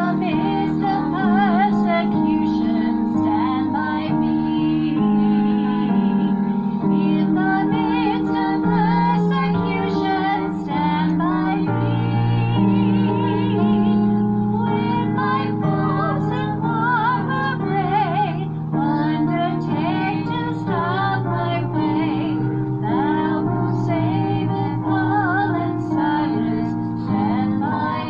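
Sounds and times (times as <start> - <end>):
sustained accompanying chords: 0.0 - 28.0
woman singing hymn: 0.0 - 28.0.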